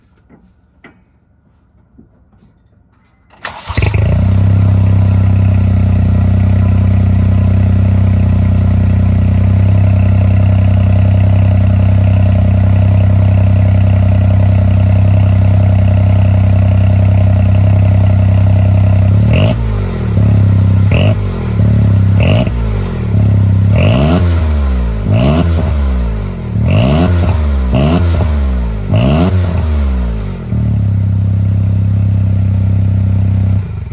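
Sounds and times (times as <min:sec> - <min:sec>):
car engine idling and revving: 0:03.4 - 0:33.9.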